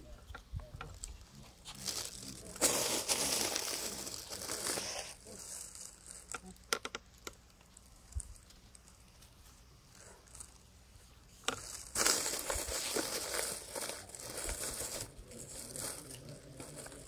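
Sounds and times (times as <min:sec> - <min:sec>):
crinkling rustling: 0:00.3 - 0:17.0.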